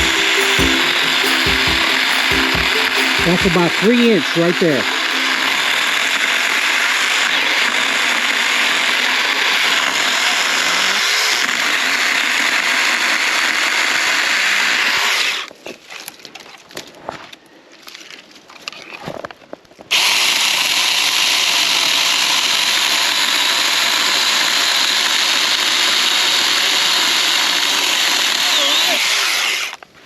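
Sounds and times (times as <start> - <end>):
electric chainsaw cutting wood: 0.0 - 15.5, 19.9 - 29.9.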